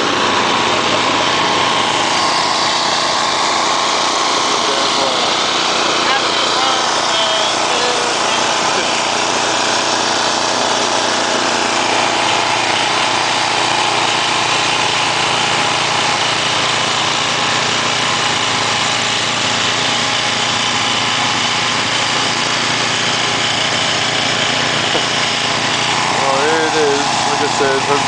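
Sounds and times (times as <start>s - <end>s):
small engine running steadily: 0.0s - 28.0s.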